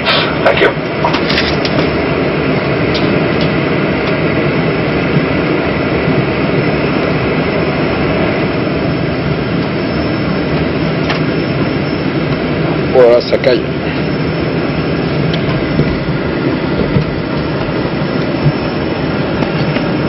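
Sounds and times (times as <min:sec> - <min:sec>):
jet engines from inside cabin: 0:00.0 - 0:20.0.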